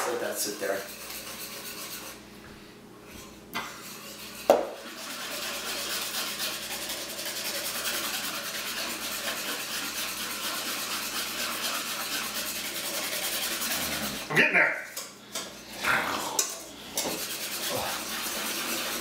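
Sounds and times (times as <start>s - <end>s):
utensil scraping metal bowl: 0.0s - 2.2s, 3.6s - 14.3s, 16.4s - 19.0s.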